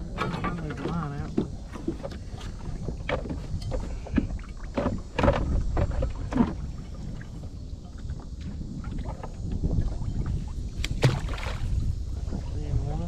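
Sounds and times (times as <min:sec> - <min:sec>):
water splashing against hull: 0:00.0 - 0:13.0.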